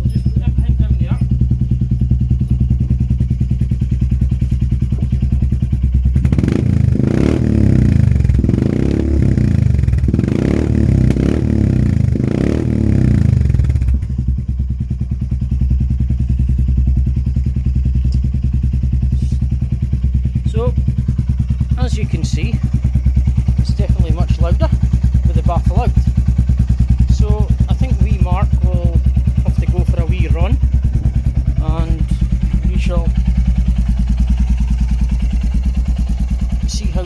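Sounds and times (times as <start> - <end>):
motorcycle engine idling: 0.0 - 37.0
motorcycle engine revving: 0.0 - 37.0.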